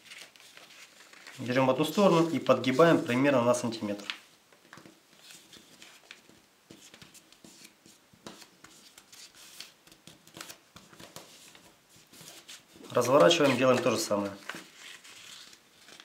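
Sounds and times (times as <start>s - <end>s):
paper being folded and creased: 0.0s - 3.1s, 4.0s - 16.0s.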